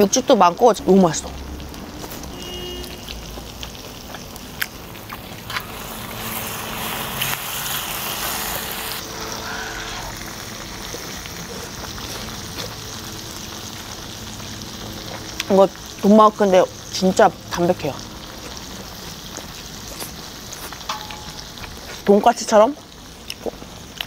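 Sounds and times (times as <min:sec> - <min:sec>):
pork sizzling on griddle: 0:00.0 - 0:24.0.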